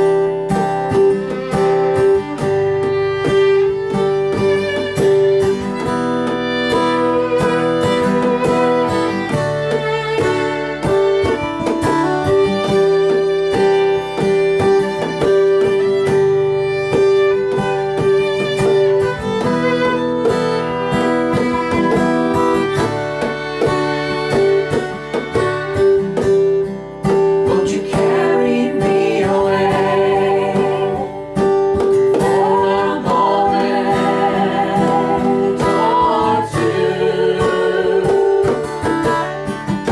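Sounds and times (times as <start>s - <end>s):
fiddle long bowed notes: 0.0s - 39.9s
strummed acoustic guitar: 0.0s - 39.9s.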